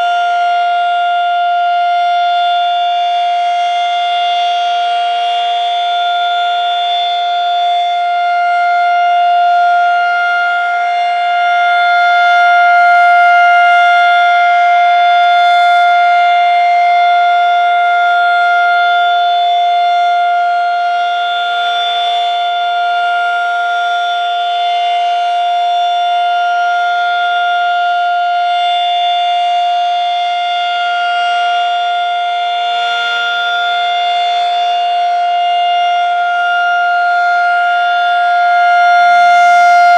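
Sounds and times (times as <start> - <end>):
rotating outdoor warning siren: 0.0 - 39.9.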